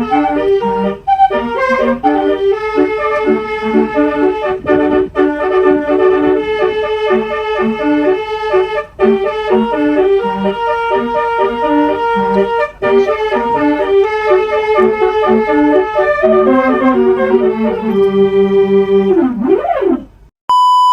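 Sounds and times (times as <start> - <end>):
musical air horn melody: 0.0 - 20.0.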